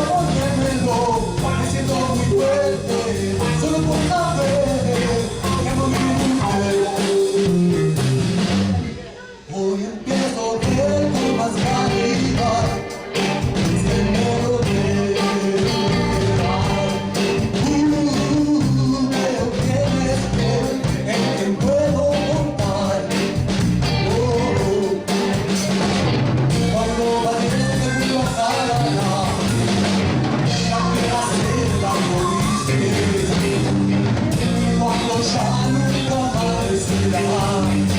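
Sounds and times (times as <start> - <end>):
blues band playing: 0.0 - 9.4, 10.1 - 37.9.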